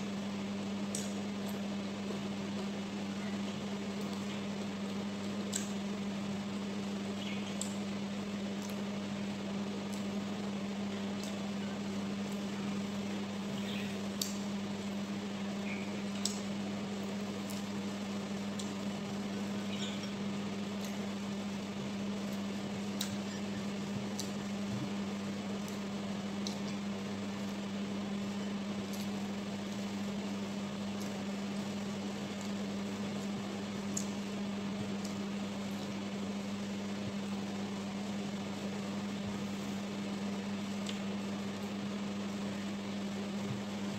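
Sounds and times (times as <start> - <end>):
household appliance humming: 0.0 - 43.9.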